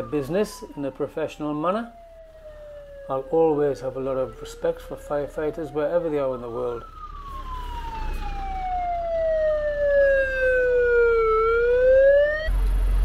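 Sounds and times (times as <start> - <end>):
fire truck siren wailing: 0.0 - 12.5.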